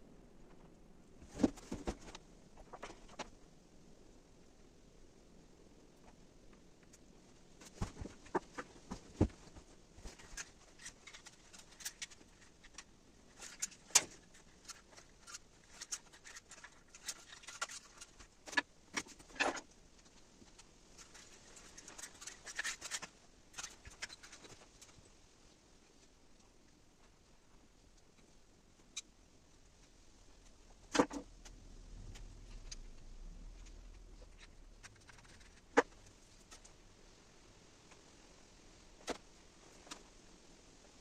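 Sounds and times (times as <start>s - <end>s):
rustling: 0.4s - 3.4s, 6.0s - 41.0s.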